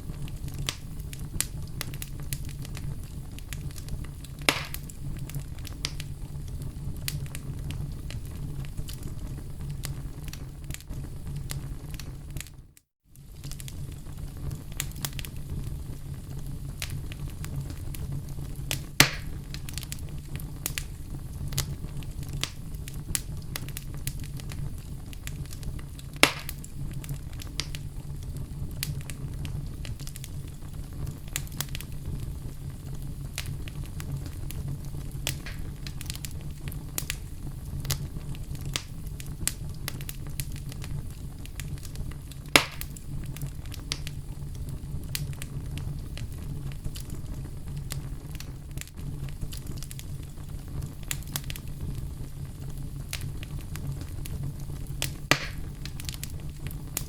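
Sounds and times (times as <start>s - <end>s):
loud sharp fire pops: 0.0s - 12.5s, 13.2s - 57.0s
wood fire crackling: 0.0s - 57.0s.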